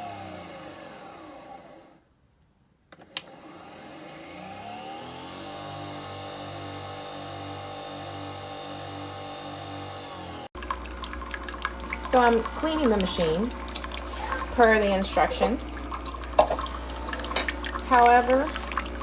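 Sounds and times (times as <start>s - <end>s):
coffee machine whirring hum: 0.0s - 2.1s, 3.0s - 19.0s.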